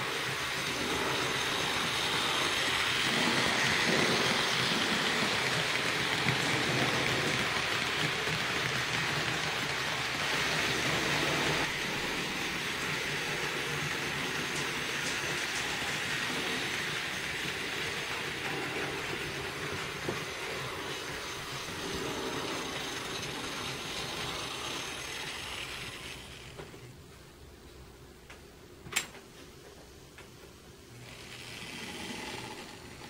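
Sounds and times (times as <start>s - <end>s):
model trains running on track: 0.0s - 26.9s, 29.7s - 33.0s.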